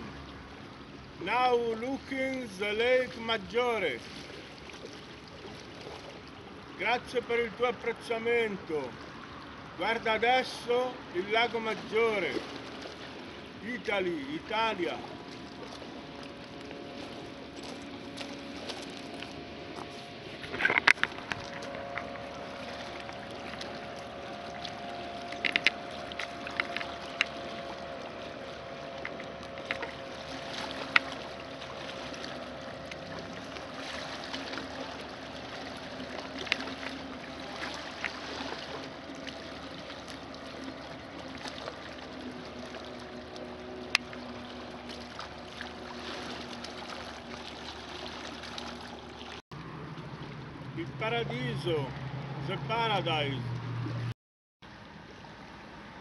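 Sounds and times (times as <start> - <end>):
waves lapping on stony shore: 0.0 - 52.0
distant motorboat engine: 0.0 - 56.0.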